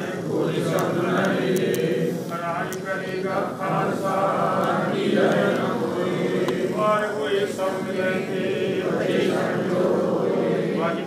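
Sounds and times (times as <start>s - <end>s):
congregation chanting: 0.0s - 11.0s.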